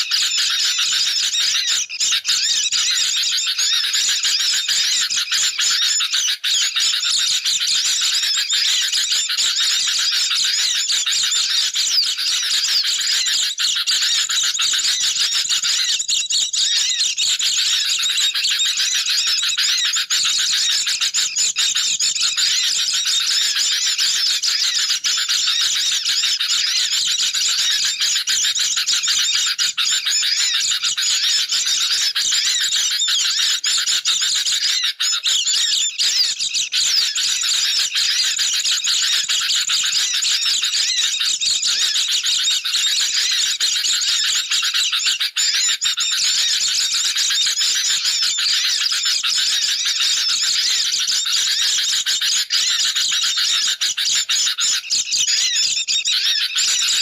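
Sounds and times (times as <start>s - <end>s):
high twittering of small birds: 0.0s - 57.0s.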